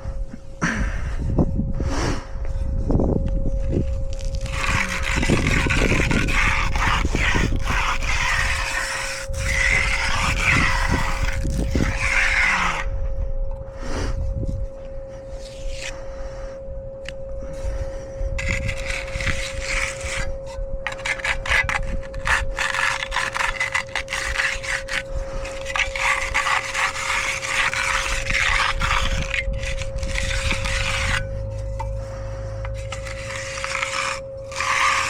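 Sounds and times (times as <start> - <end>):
steady tone: 0.0 - 22.6, 25.0 - 35.0
tool scraping wet concrete: 3.8 - 12.9, 15.2 - 16.2, 17.0 - 35.0.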